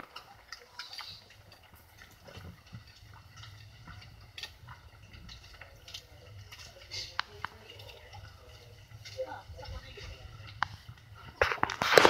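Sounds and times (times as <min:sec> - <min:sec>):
shuffling footsteps: 0:00.0 - 0:12.0
small clicks and rustles: 0:00.0 - 0:12.0.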